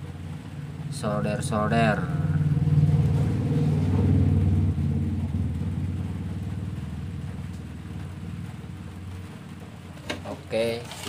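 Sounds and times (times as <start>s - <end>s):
low pulsing engine drone: 0.0s - 10.6s.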